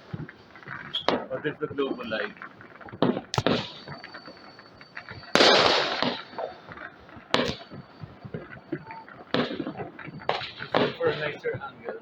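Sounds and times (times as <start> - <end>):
fireworks bangs: 0.0 - 12.0
small firework pops: 0.0 - 12.0.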